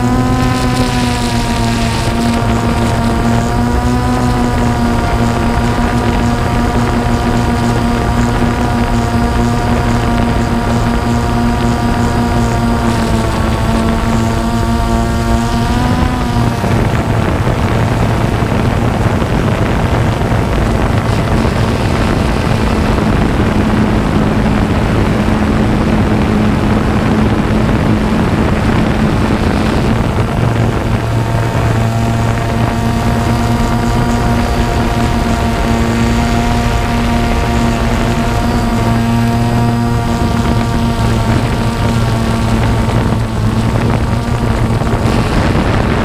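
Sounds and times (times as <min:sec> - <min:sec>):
drone motors humming: 0:00.0 - 0:46.0
wind rush on microphone: 0:00.0 - 0:46.0.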